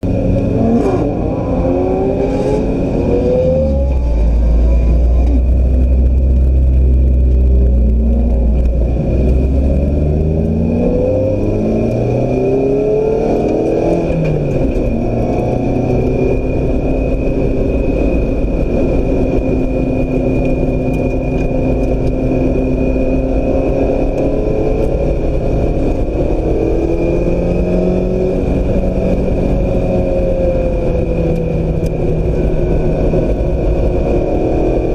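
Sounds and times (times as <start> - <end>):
car engine accelerating and shifting: 0.0 - 34.9.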